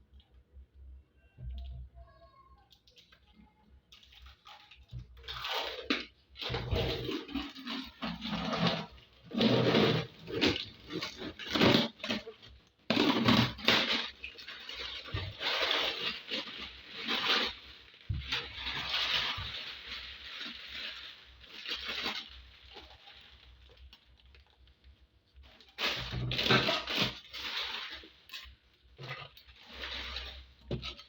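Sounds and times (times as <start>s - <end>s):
scraping and rustling: 3.9s - 31.0s.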